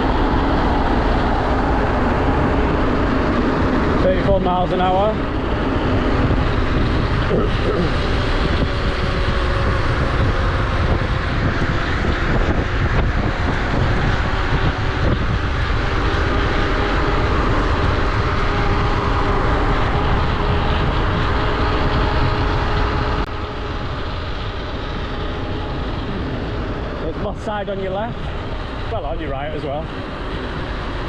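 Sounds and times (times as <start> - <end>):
electric motor whine: 0.0 - 31.0
road rumble: 0.0 - 31.0
wind buffeting microphone: 0.0 - 31.0.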